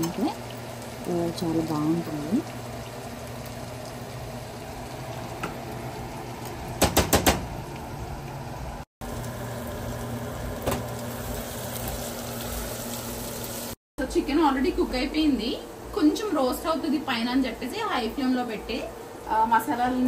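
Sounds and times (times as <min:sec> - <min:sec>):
stove hum: 0:00.0 - 0:20.0.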